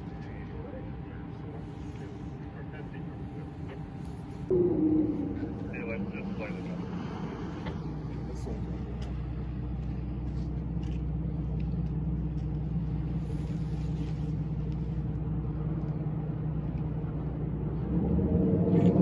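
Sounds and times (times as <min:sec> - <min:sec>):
ship engine rumble: 0:00.0 - 0:19.0.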